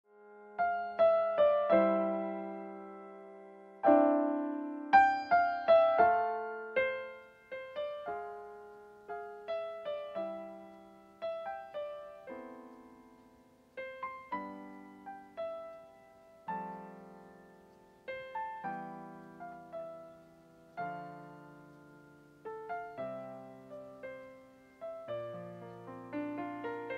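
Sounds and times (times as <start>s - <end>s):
slow piano music: 0.1s - 26.9s.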